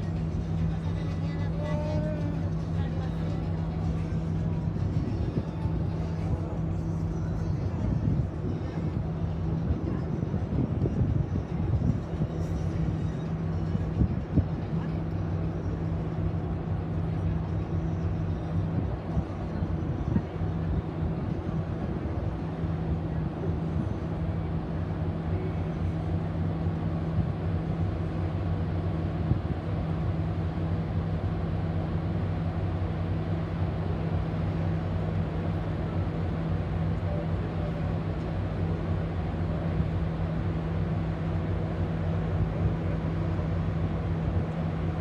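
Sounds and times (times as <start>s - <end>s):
low buffeting: 0.0s - 45.0s
ship engines droning: 0.0s - 45.0s.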